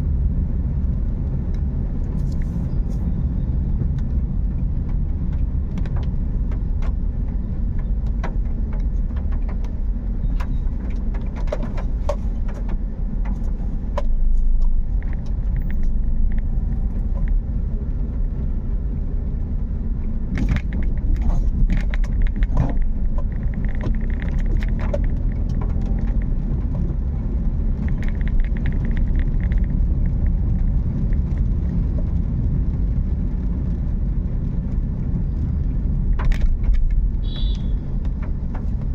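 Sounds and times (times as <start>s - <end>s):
car engine and tyres rumbling: 0.0s - 38.9s
rain clicks and taps: 0.2s - 38.9s.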